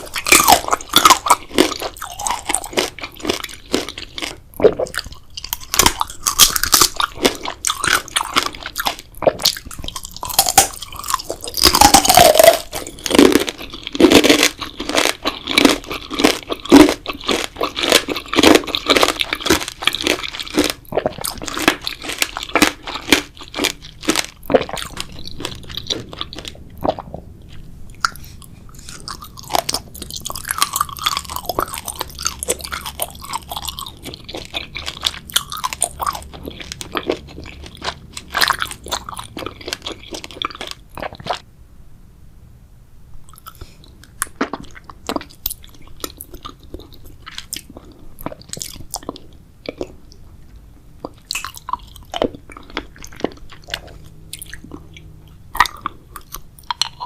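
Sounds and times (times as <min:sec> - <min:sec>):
wet chewing with mouth clicks: 0:00.0 - 0:41.4, 0:43.3 - 0:57.0.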